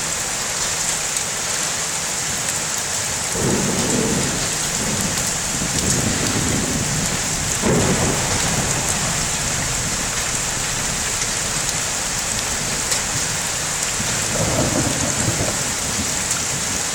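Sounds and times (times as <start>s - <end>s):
heavy rain pouring: 0.0s - 16.9s
thunder rumbling: 3.3s - 16.9s.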